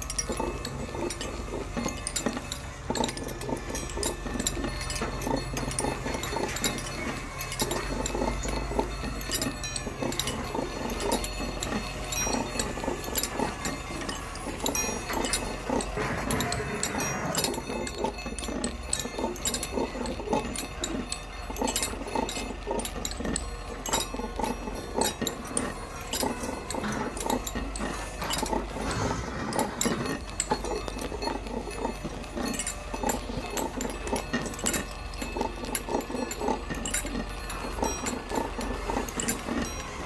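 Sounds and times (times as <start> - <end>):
hydraulic grab creaks and clanks: 0.0 - 40.0.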